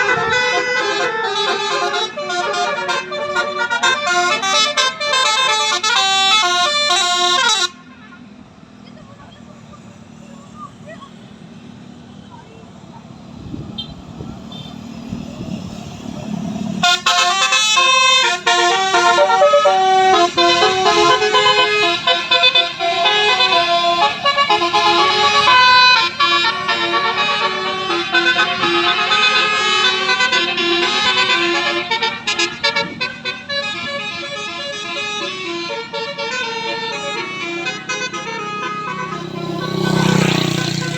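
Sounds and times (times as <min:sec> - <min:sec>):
multi-tone bus air horns tune: 0:00.0 - 0:08.3, 0:13.7 - 0:14.9, 0:16.8 - 0:40.9.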